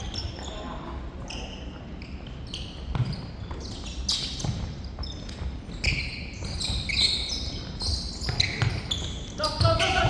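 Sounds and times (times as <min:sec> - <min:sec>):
sports shoes squeaking on floor: 0:00.0 - 0:10.0.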